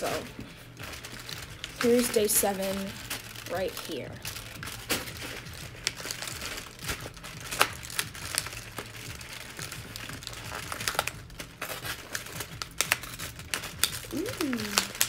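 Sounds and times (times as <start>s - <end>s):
paper and card crinkling: 0.0s - 15.0s.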